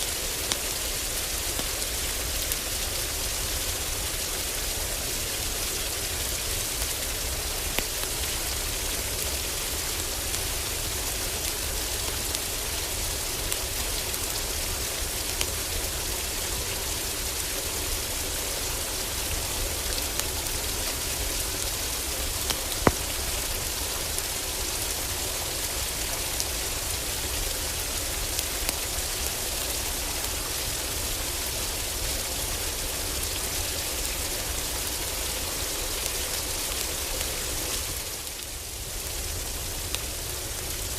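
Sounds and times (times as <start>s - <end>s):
heavy rain on a roof: 0.0s - 40.9s
wood fire crackling: 0.1s - 40.9s.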